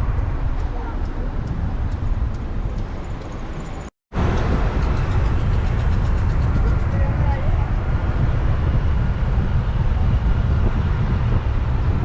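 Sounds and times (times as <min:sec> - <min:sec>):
low rumble of moving vehicle: 0:00.0 - 0:12.0.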